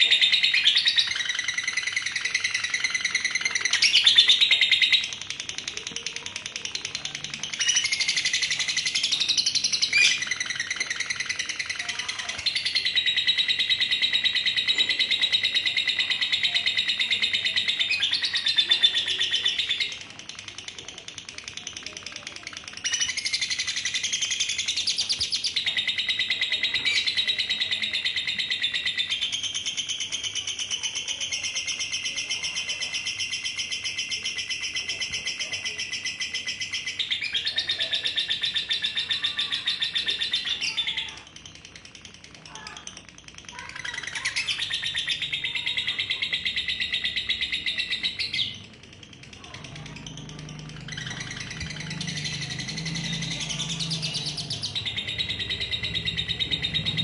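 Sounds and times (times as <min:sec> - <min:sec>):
lovebird chattering trill: 0:00.0 - 0:57.0.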